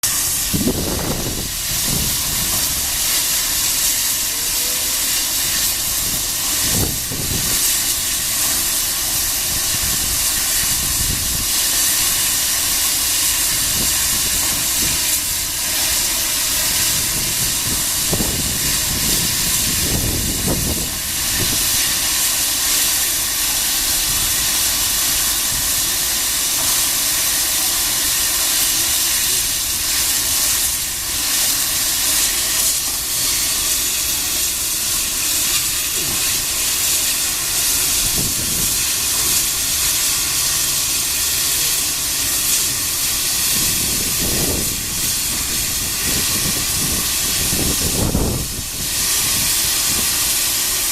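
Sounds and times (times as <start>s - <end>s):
steam locomotive hissing steam: 0.0s - 50.9s.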